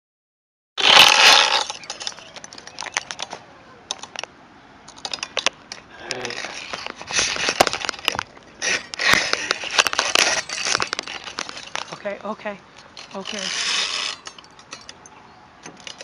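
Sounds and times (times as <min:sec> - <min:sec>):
clicks and scrapes: 0:00.8 - 0:04.3, 0:04.9 - 0:12.2, 0:12.8 - 0:16.0
rubbing handling noise: 0:00.8 - 0:16.0.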